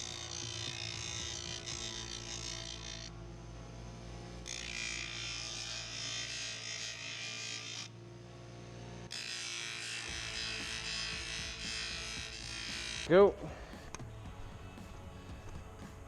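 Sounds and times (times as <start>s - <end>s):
grinder grinding steel: 0.0s - 3.3s, 4.4s - 8.0s, 9.0s - 16.0s
motor humming: 0.0s - 16.0s.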